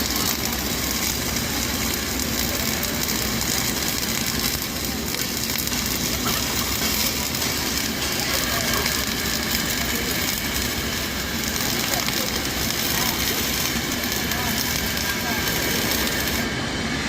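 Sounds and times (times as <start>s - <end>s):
welding arc crackling: 0.0s - 16.9s.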